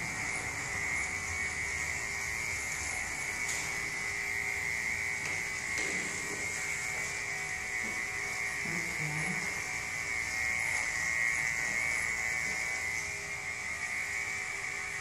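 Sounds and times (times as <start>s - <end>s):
electric clippers whining: 0.0s - 15.0s.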